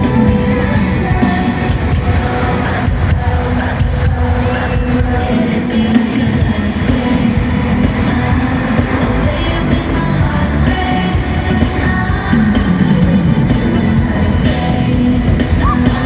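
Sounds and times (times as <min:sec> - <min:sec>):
bass-driven backing track: 0:00.0 - 0:16.0
person singing: 0:00.0 - 0:16.0.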